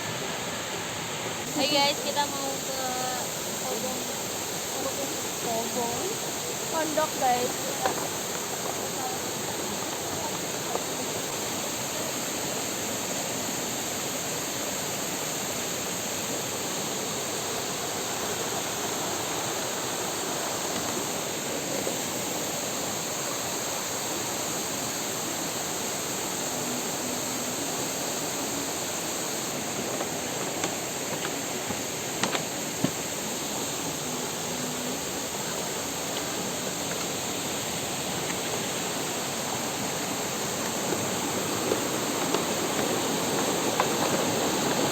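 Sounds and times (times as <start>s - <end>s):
waterfall and river rushing: 0.0s - 44.9s.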